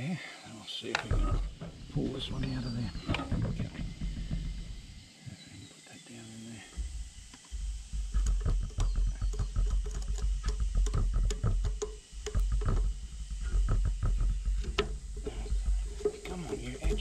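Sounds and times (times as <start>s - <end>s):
low rumble: 1.1s - 5.1s, 6.7s - 17.0s.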